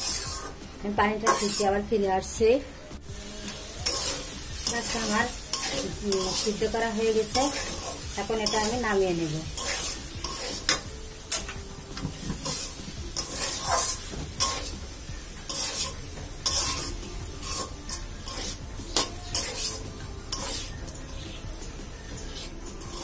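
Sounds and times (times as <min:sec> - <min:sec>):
metal spatula scraping a pan: 0:00.0 - 0:02.4, 0:03.2 - 0:23.0
steady sizzle: 0:00.0 - 0:23.0.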